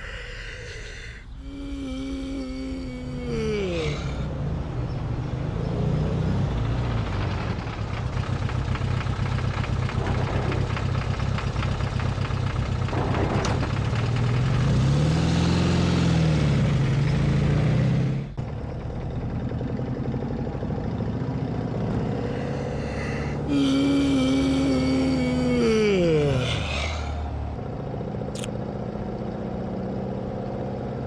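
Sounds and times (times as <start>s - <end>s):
van engine idling and revving: 1.4s - 31.0s.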